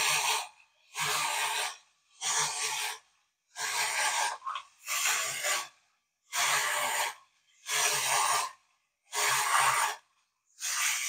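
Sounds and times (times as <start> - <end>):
clockwork toy mechanism whirring: 0.0 - 10.0, 10.6 - 11.0.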